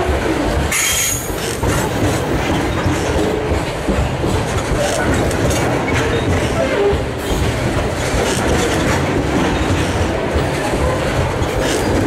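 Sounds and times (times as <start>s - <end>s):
freight train rumbling past: 0.0s - 12.0s
wheel clatter on rails: 0.0s - 12.0s.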